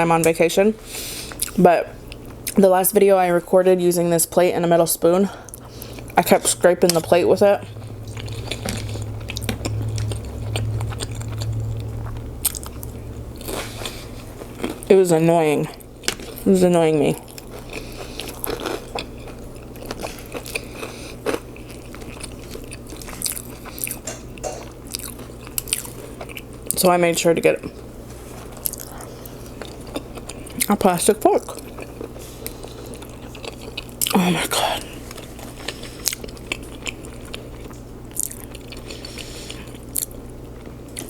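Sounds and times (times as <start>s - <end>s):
person chewing food with smacking: 5.5s - 14.9s, 15.7s - 16.4s, 17.2s - 26.8s, 27.6s - 41.0s.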